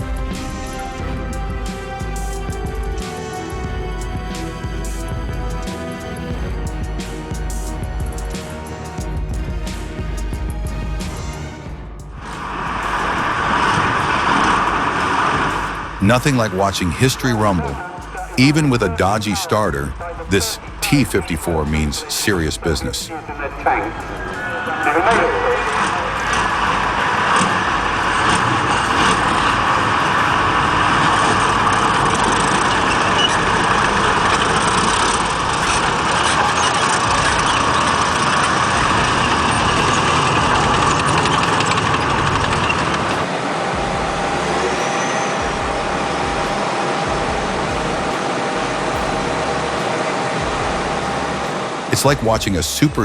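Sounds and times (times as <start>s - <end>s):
quieter machine noise: 0.0s - 53.0s
tank diesel engine rumbling: 0.0s - 53.0s.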